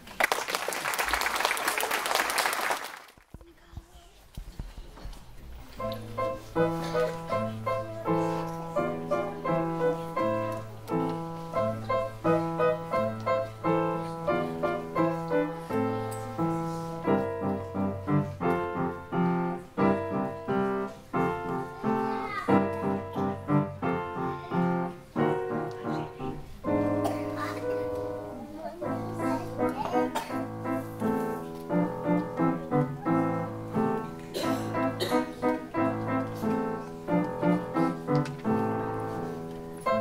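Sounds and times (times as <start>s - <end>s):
solo piano piece: 5.8s - 40.0s.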